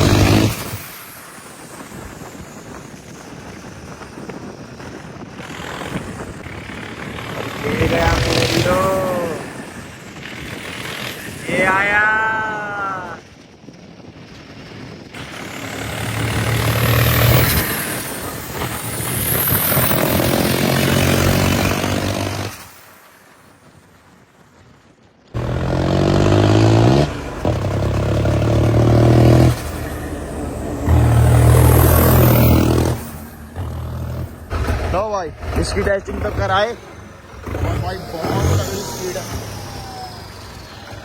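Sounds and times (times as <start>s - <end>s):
tractor diesel engine running hard: 0.0s - 3.6s, 5.4s - 11.8s, 15.2s - 22.6s, 25.4s - 41.0s.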